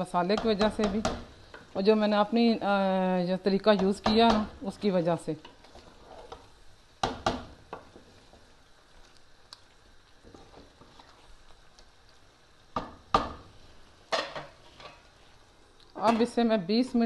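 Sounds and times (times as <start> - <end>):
wooden spoon stirring in pot: 0.0 - 2.7, 3.4 - 15.5.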